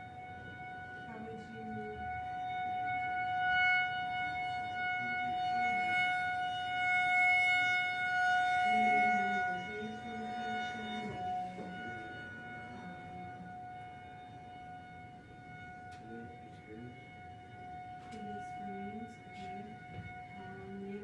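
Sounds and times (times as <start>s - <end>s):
warning siren steady tone: 0.0s - 21.0s.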